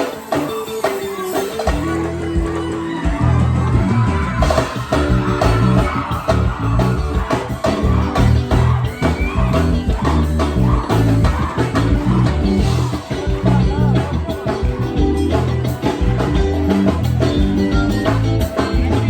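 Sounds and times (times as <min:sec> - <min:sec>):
electric guitar: 0:00.0 - 0:19.0
live band playing: 0:00.0 - 0:19.0.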